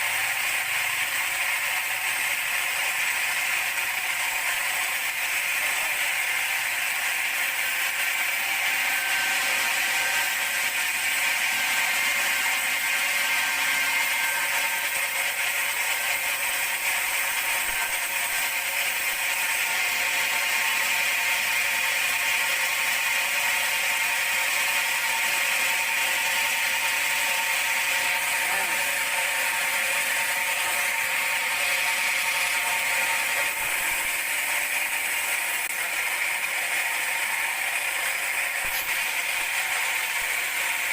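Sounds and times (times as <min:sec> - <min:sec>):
band saw whining: 0:00.0 - 0:40.9.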